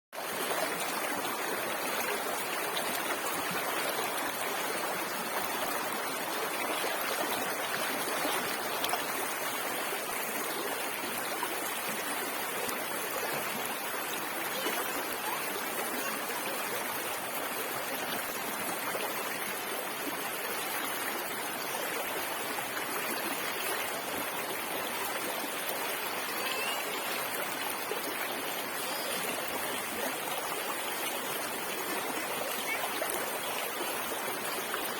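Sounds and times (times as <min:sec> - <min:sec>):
stream water trickling: 0:00.2 - 0:34.9.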